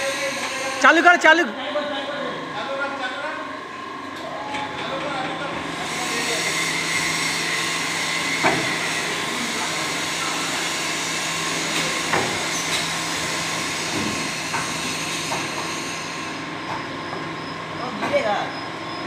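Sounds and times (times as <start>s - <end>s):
machine whirring and humming: 0.0s - 19.0s.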